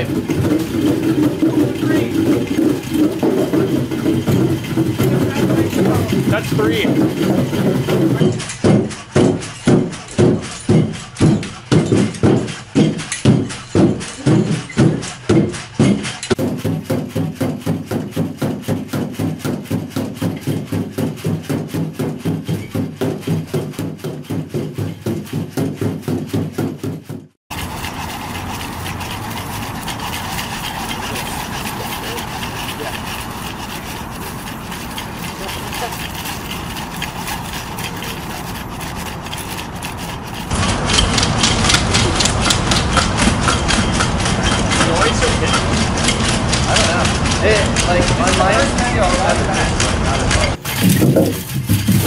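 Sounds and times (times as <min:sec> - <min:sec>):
robot feet striking treadmill belt: 0:00.0 - 0:52.0.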